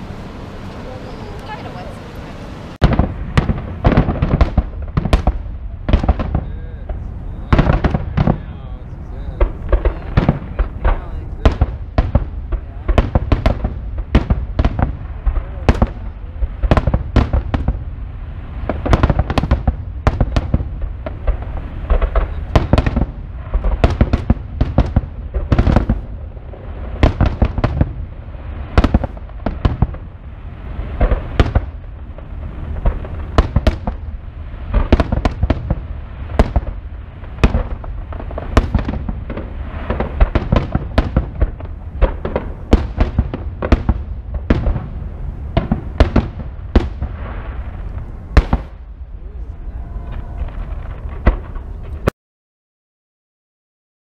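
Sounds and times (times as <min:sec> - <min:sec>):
low rumble: 0:00.0 - 0:52.1.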